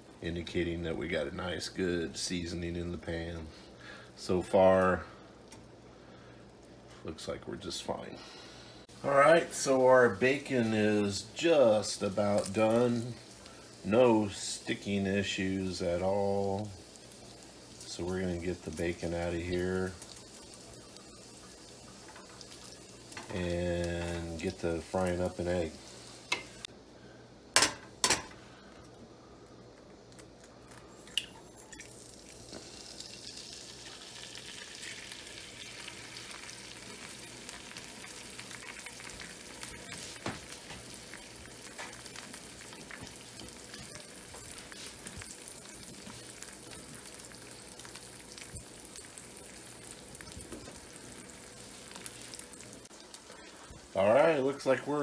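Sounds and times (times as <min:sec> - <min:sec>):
egg sizzling in grease: 0:00.0 - 0:26.8, 0:27.4 - 0:55.0.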